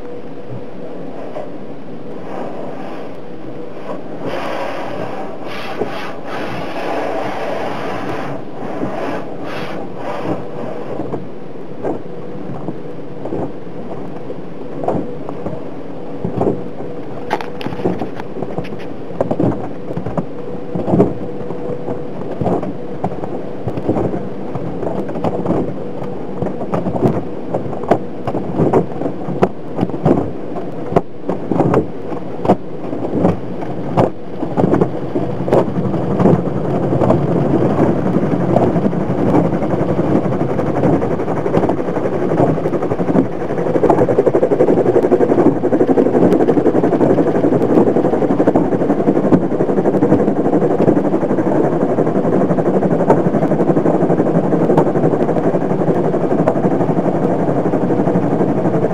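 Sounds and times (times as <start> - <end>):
rushing noise: 0.0 - 58.9.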